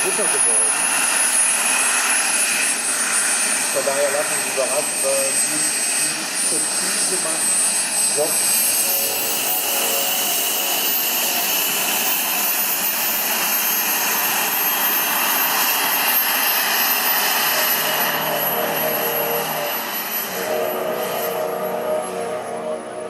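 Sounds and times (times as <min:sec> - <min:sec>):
model turbine jets flying past: 0:00.0 - 0:23.0.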